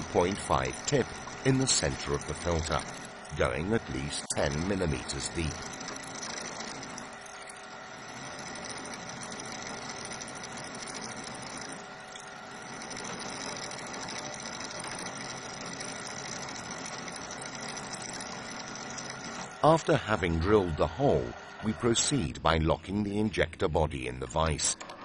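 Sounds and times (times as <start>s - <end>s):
drill press cutting steel: 0.0s - 22.3s.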